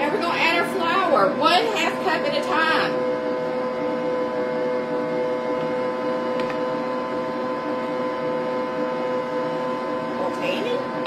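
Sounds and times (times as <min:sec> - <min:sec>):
stand mixer humming: 0:00.0 - 0:11.0.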